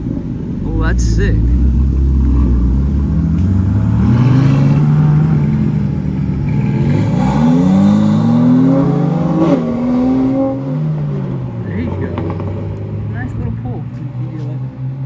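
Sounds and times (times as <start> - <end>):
car engine accelerating: 0.0 - 14.7.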